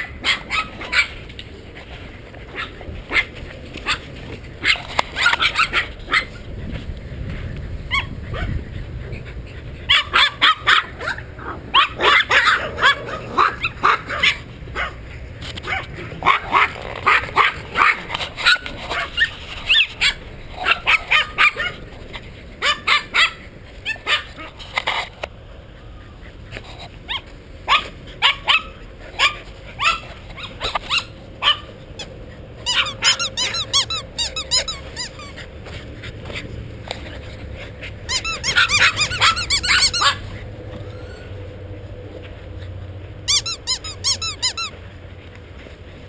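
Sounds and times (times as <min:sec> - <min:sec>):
puppies yipping and barking: 0:00.0 - 0:06.8, 0:07.4 - 0:46.0.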